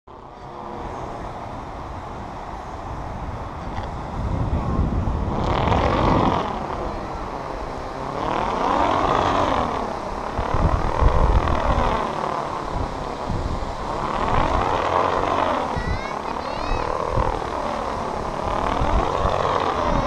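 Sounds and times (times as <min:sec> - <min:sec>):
model plane propeller whine: 0:00.1 - 0:20.0
wind buffeting microphone: 0:00.2 - 0:20.0.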